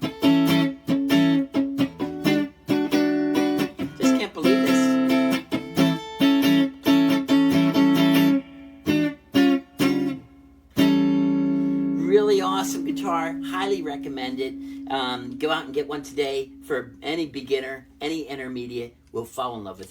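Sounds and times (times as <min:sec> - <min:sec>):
electric guitar strummed chords: 0:00.0 - 0:18.0.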